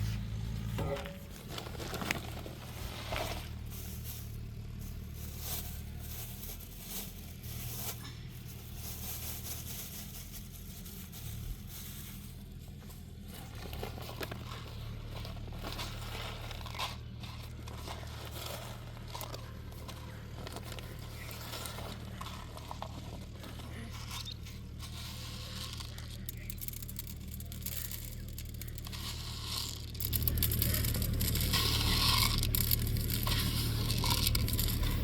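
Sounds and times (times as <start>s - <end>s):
low rumble: 0.0s - 35.0s
rustling and scraping: 0.0s - 35.0s.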